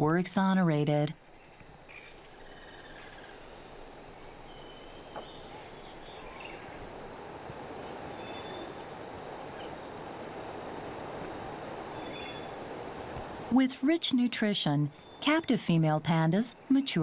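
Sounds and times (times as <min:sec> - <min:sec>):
constant high-pitched tone: 0:00.0 - 0:17.0.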